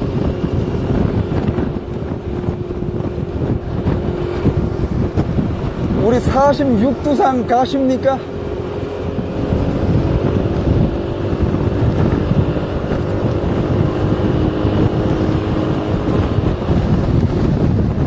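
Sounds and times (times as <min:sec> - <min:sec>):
low engine hum: 0:00.0 - 0:18.0
road and engine noise: 0:00.0 - 0:18.0
wind buffeting microphone: 0:00.0 - 0:18.0.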